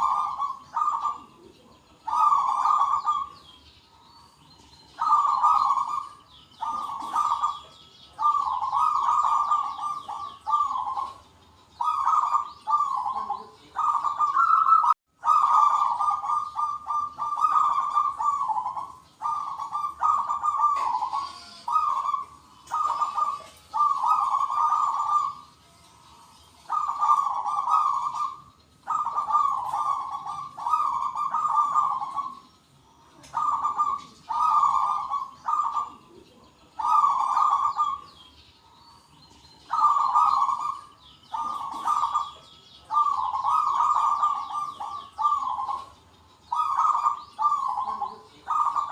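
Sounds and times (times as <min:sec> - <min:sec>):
doves cooing: 0:00.0 - 0:48.9
small birds chirping faintly: 0:00.0 - 0:48.9.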